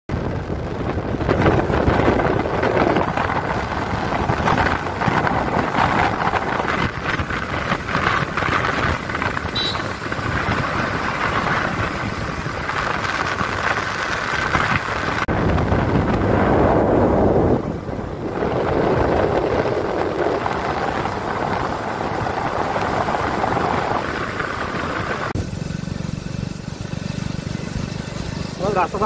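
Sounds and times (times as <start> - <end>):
wind rushing over microphone: 0.1 - 25.5
motorbike running noise: 0.1 - 29.0.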